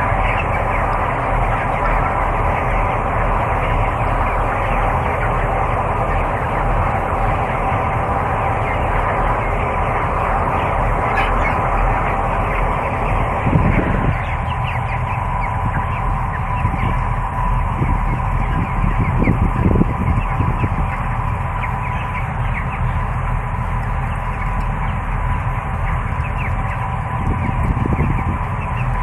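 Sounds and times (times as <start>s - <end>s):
chickens peeping: 0.0s - 29.0s
ventilation fans humming: 0.0s - 29.0s.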